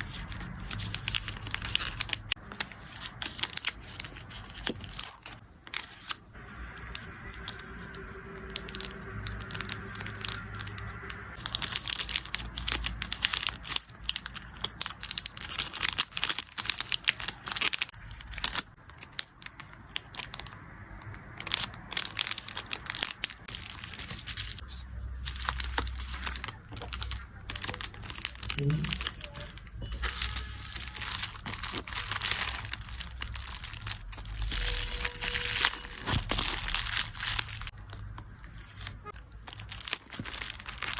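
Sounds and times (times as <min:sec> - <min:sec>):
plastic packaging crinkling: 0:00.0 - 0:40.9.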